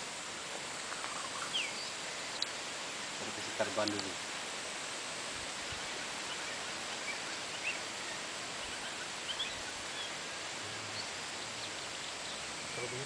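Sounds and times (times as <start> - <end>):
outdoor background hiss: 0.0 - 13.0
faint bird chirps: 0.8 - 4.2, 5.5 - 13.0.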